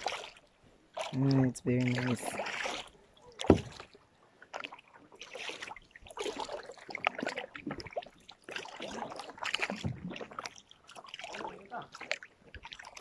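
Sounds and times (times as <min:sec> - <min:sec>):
paddle splashing in water: 0:00.0 - 0:13.0
water dripping off paddle: 0:00.0 - 0:13.0.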